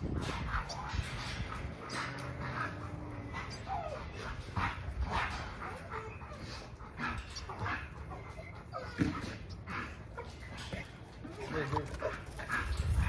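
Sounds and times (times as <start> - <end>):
dogs whining and yipping: 0.0 - 11.6.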